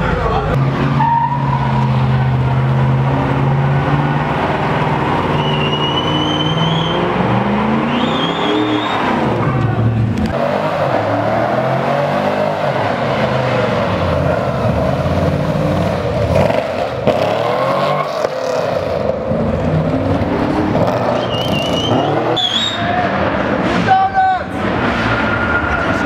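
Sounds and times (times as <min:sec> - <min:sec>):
car engine revving hard: 0:01.6 - 0:23.9.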